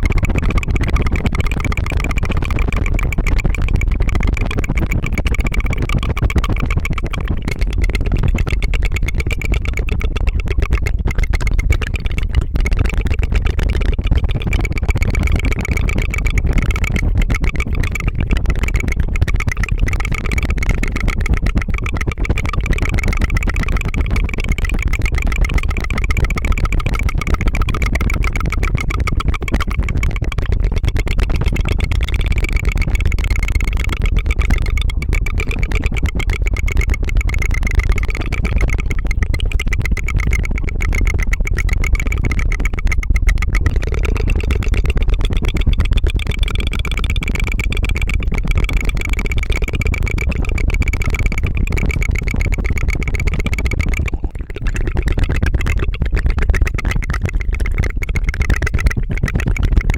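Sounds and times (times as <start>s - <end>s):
tongue fluttering trill: 0.0s - 59.9s.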